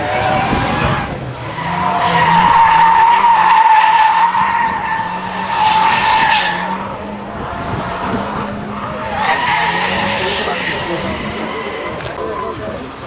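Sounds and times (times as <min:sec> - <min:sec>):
car engine running: 0:00.0 - 0:13.0
tyres screeching: 0:00.0 - 0:13.0.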